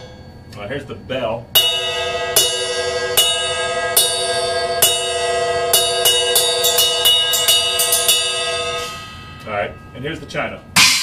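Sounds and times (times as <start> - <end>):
ride cymbal bell strikes: 1.6 - 11.0.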